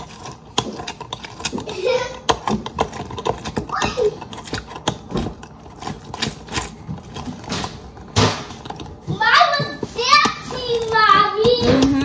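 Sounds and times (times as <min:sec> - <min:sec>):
utensils and dishes clattering: 0:00.0 - 0:12.0.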